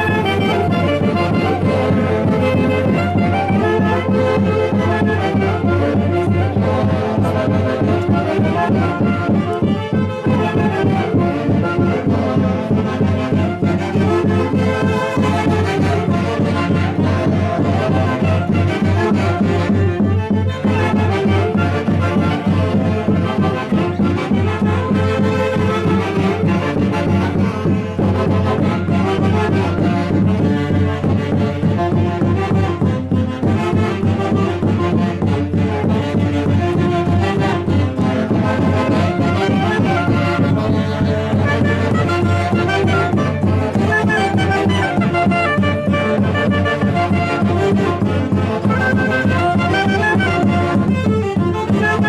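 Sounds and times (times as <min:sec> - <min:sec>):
live band with wind instruments: 0:00.0 - 0:52.0.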